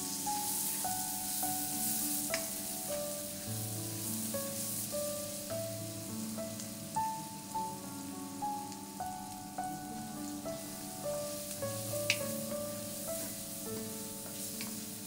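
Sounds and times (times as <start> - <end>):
onions sizzling in hot oil: 0.0 - 15.0
slow melody of single notes: 0.0 - 15.0.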